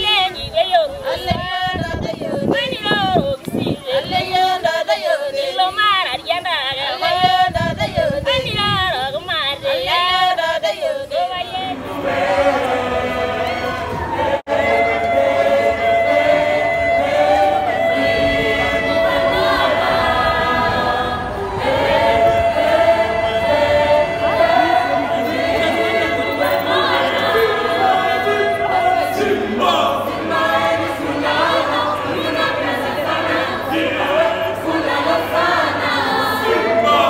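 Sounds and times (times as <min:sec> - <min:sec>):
choir singing: 0:00.0 - 0:08.7, 0:09.5 - 0:37.0.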